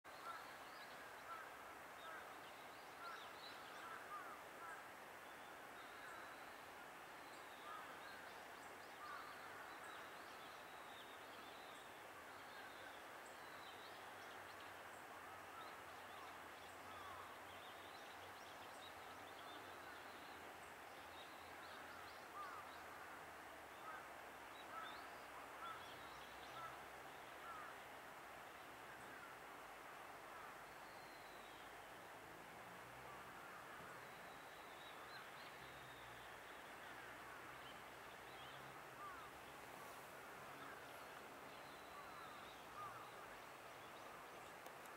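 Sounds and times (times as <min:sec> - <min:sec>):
steady hiss: 0:00.1 - 0:44.9.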